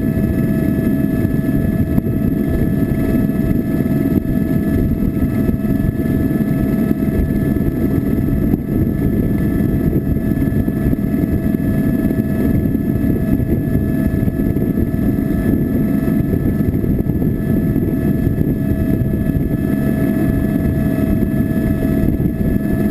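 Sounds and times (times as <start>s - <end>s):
engine whine and rumble: 0.0s - 22.9s.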